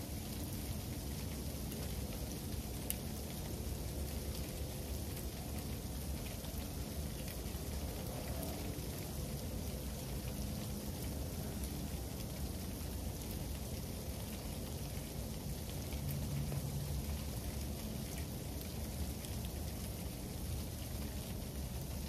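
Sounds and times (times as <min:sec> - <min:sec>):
freezing rain hissing: 0:00.0 - 0:22.0.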